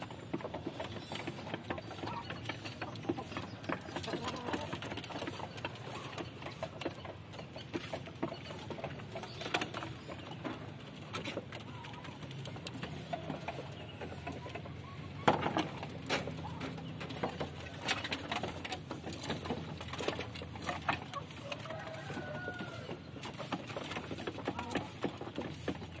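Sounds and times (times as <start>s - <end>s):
beaks pecking on metal roof: 0.0s - 26.0s.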